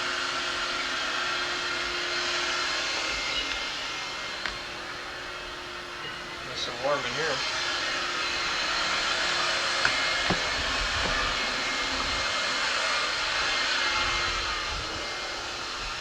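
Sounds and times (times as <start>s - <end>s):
furnace rushing hiss: 0.0s - 16.0s.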